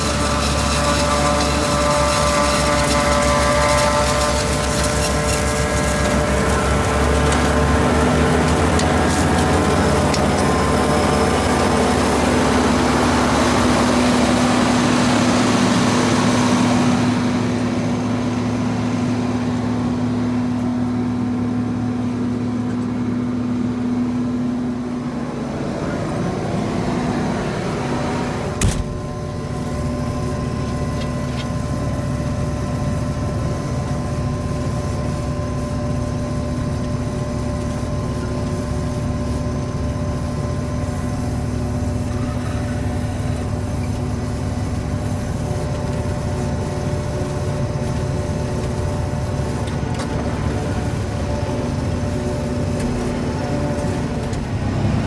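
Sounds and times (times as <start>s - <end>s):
forage harvester drone: 0.0s - 55.0s.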